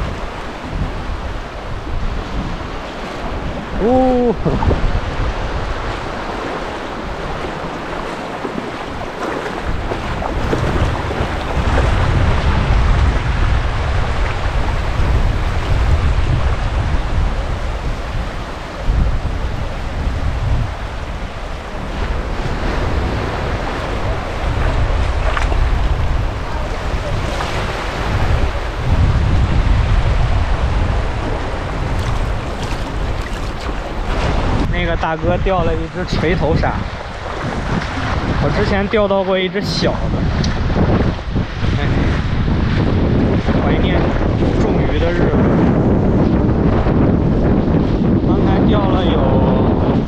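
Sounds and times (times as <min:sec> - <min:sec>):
surf washing onto beach: 0:00.0 - 0:50.0
wind buffeting microphone: 0:00.0 - 0:50.0.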